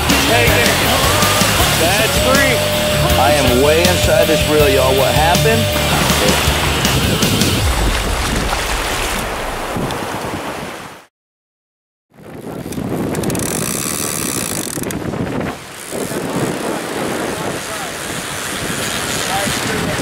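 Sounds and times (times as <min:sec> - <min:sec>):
wind buffeting microphone: 0:00.0 - 0:10.9, 0:12.1 - 0:20.0
surf breaking on beach: 0:00.0 - 0:11.1, 0:12.4 - 0:20.0.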